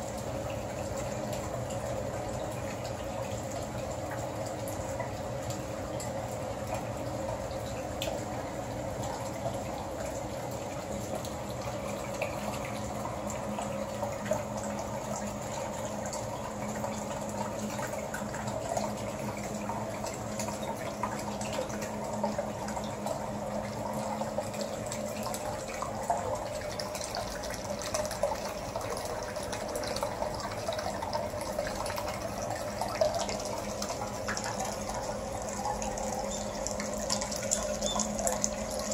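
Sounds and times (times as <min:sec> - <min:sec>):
water pouring into a bathtub: 0:00.0 - 0:38.9.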